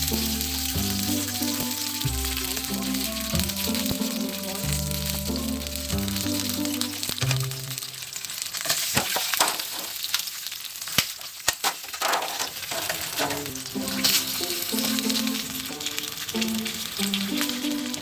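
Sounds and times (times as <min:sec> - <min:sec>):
meatballs sizzling in a frying pan: 0:00.0 - 0:18.0.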